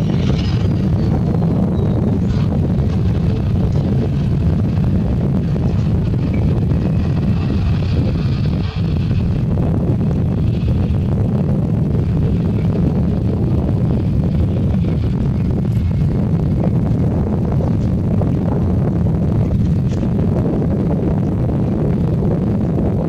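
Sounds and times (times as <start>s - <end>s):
jet engines at takeoff thrust: 0.0s - 23.0s.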